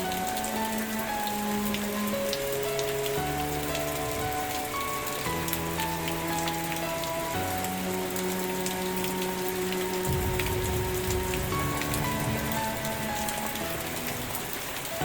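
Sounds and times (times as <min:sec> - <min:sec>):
soft music of held notes: 0:00.0 - 0:15.0
steady rain: 0:00.0 - 0:15.0.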